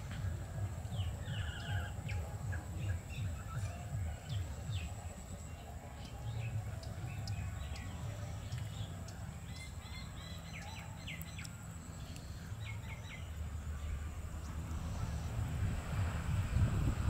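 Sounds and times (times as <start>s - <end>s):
small birds chirping: 0.0s - 15.4s
steady low rumble: 0.0s - 17.0s.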